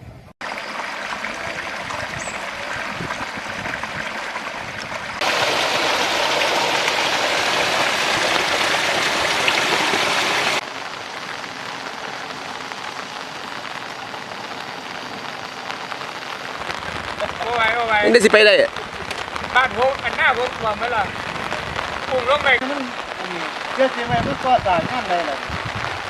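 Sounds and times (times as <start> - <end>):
rushing water: 0.4 - 26.0.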